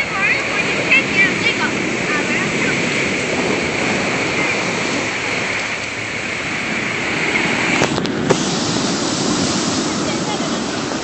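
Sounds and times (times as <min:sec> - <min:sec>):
waves crashing: 0:00.0 - 0:11.0.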